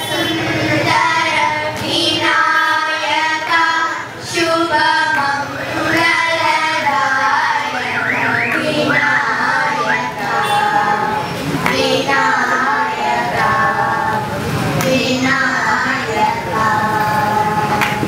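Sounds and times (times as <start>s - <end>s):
girls singing together: 0.0s - 18.0s.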